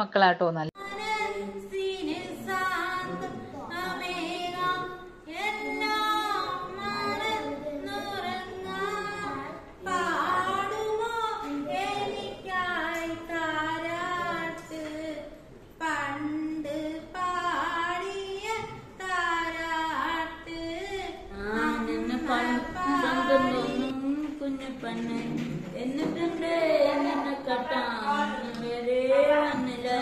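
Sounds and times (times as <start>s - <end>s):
person singing unaccompanied: 0.8s - 30.0s.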